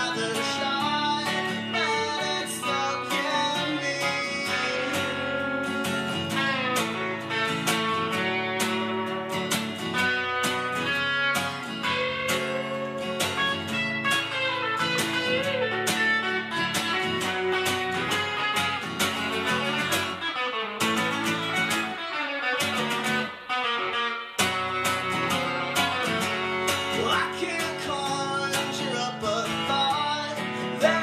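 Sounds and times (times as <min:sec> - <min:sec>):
acoustic guitar strumming: 0:00.0 - 0:31.0
electric guitar lead lines: 0:00.0 - 0:31.0.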